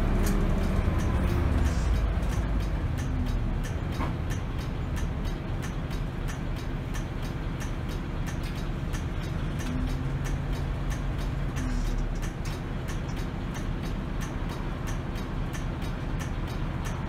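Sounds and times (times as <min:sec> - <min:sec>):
bus engine and road rumble: 0:00.0 - 0:17.0
regular ticking: 0:00.0 - 0:17.0.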